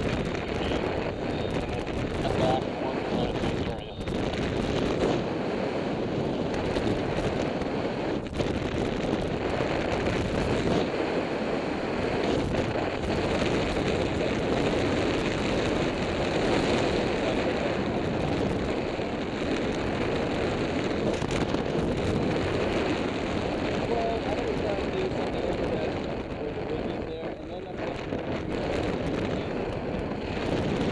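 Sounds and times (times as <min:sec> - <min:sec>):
wind rushing over microphone: 0:00.0 - 0:30.9.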